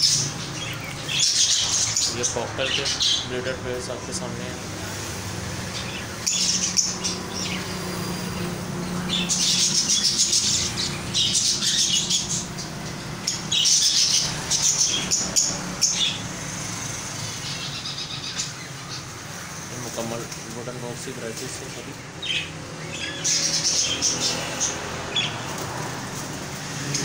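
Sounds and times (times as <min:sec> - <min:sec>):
caged birds calling: 0:00.0 - 0:27.0.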